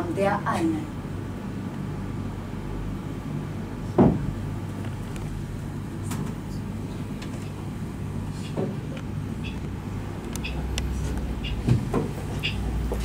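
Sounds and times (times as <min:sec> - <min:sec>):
low hum of a hall: 0:00.0 - 0:13.0.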